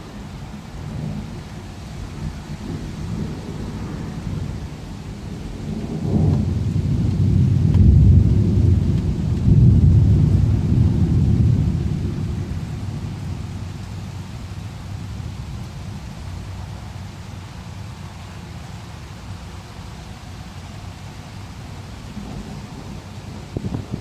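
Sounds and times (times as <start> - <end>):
thunder rumbling: 0.0 - 18.8, 21.6 - 24.0
steady rain: 0.0 - 24.0.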